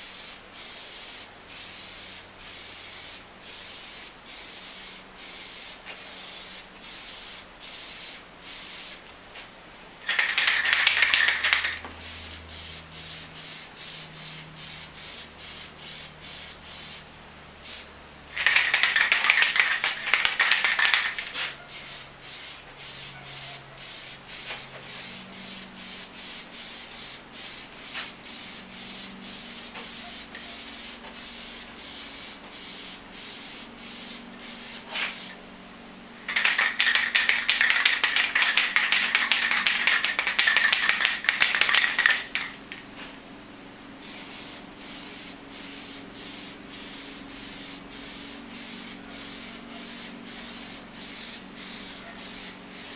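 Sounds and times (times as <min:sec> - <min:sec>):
aerosol can spraying: 0:00.0 - 0:35.4, 0:36.2 - 0:42.8, 0:44.0 - 0:52.9.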